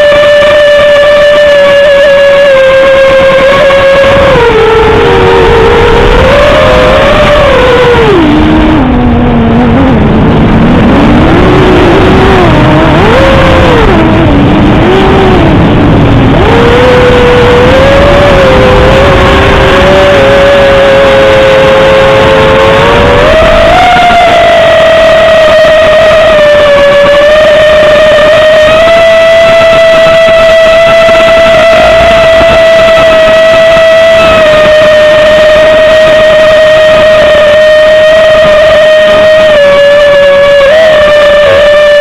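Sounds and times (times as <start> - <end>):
drone motors whining: 0.0 - 42.0
wind rumble: 0.3 - 42.0.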